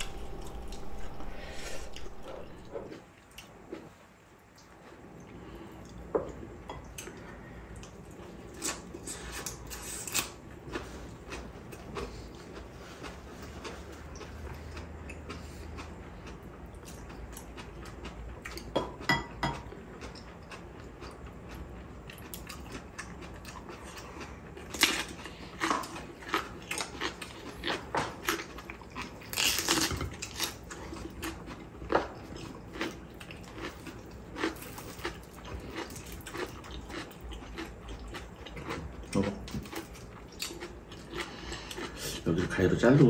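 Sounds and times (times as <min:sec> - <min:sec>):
chewing and crunching: 0:00.0 - 0:43.0.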